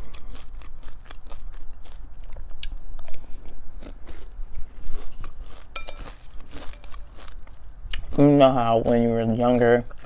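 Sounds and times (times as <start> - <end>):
chewing crunchy cereal: 0.0 - 10.0.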